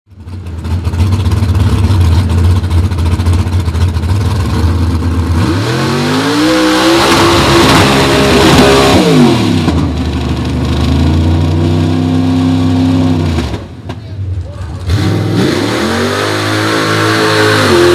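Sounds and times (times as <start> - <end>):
truck engine revving: 0.5 - 17.9.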